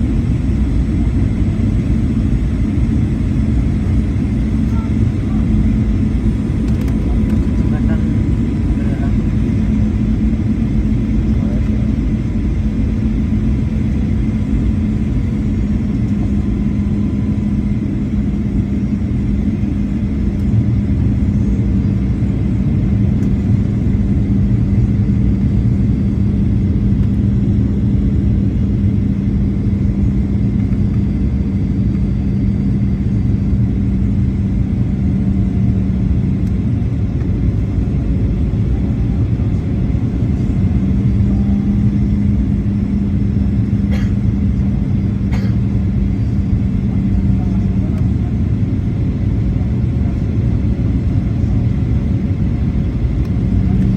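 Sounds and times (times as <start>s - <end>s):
aircraft cabin engine rumble: 0.0s - 53.9s
constant low hum: 0.0s - 53.9s.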